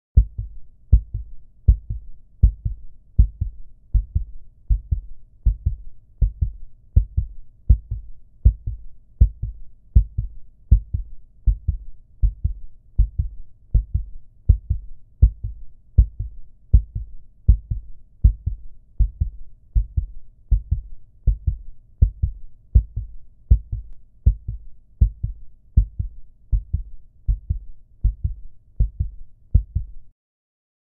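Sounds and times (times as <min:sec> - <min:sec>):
heartbeat double thumps: 0:00.2 - 0:30.0.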